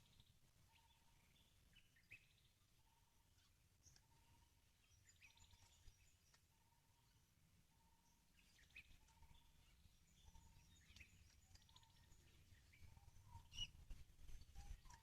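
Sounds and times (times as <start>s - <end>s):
bird chirps and trills: 0.0s - 15.0s.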